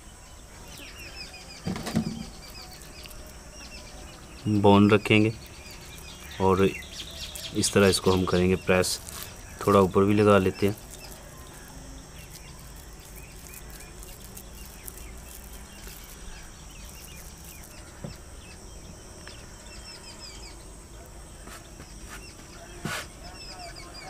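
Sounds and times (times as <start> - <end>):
birds chirping: 0.0 - 24.0
steady high hum: 0.0 - 24.0.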